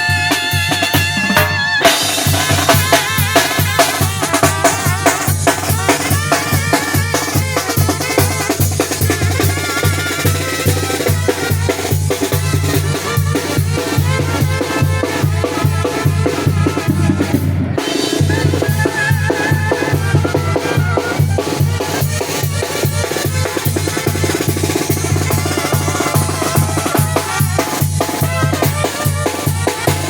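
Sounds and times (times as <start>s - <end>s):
trumpets and saxophones playing: 0.0s - 30.0s
bass drum beat: 1.0s - 28.8s.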